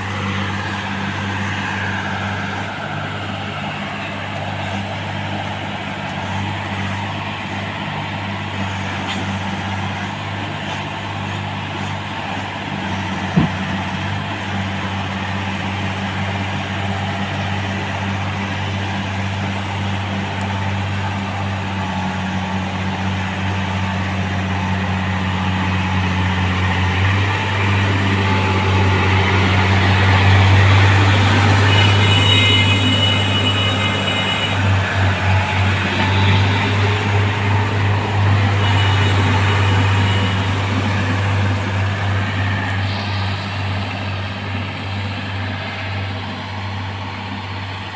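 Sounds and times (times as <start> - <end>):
diesel engine humming: 0.0 - 47.9.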